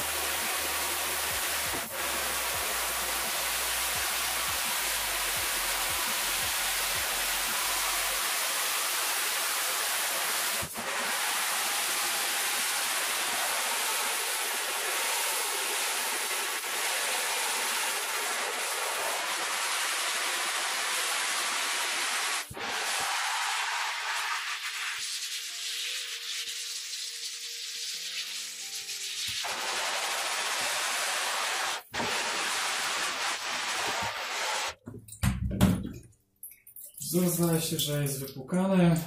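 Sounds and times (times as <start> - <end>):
water spraying from shower head: 0.0 - 34.8.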